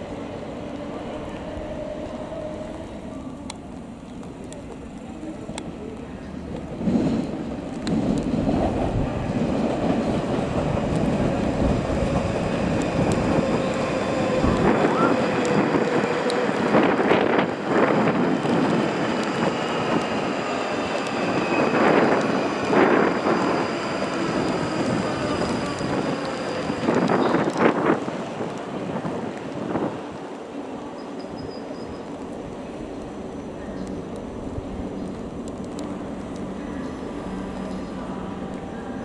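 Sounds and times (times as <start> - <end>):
passing train rumble: 0.0 - 39.0.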